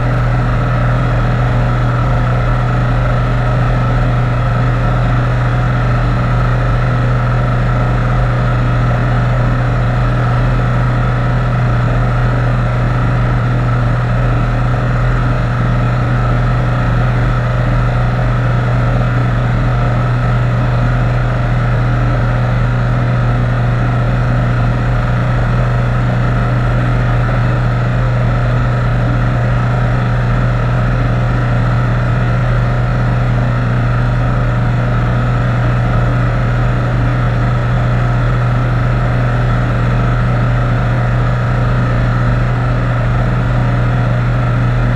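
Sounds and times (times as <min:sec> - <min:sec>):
airplane engine droning: 0:00.0 - 0:44.9.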